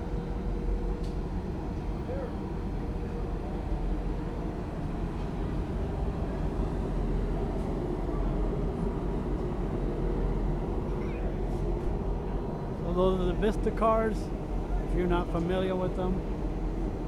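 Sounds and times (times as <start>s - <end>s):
diesel locomotive engine rumbling: 1.1s - 17.0s.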